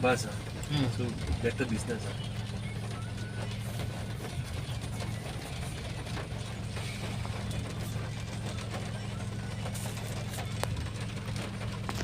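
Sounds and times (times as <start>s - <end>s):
car engine hum: 0.0s - 12.0s
road noise inside car: 0.0s - 12.0s.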